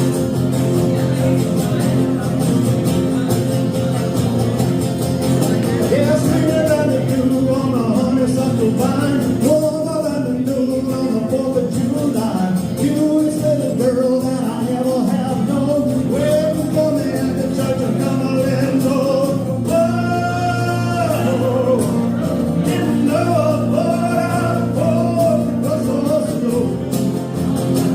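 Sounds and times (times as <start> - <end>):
acoustic guitar country song: 0.0 - 27.9.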